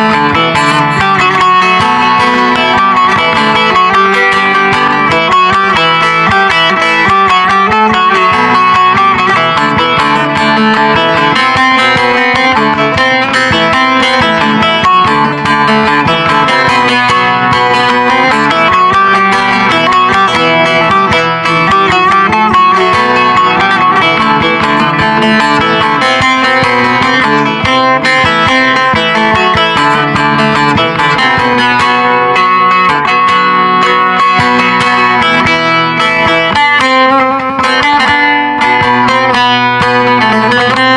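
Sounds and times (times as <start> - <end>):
plucked long-necked lute melody: 0.0 - 40.9.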